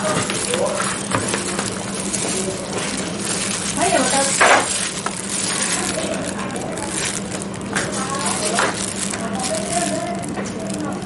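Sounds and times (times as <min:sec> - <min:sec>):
plastic crinkling and rubbing: 0:00.0 - 0:11.0.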